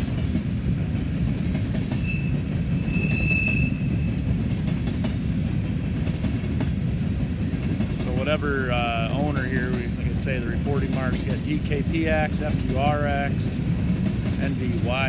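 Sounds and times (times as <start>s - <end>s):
freight train rumbling past: 0.0s - 15.0s
wheels clicking over rail joints: 0.1s - 15.0s.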